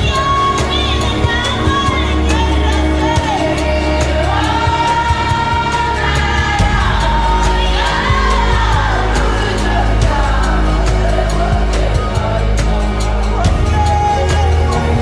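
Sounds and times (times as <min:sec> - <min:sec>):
song with singing and beat: 0:00.0 - 0:15.0.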